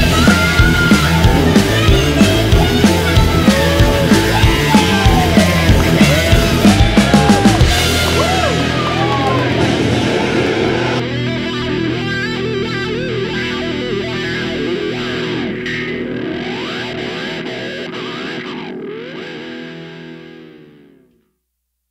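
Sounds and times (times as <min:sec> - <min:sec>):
distorted electric guitar music: 0:00.0 - 0:21.2.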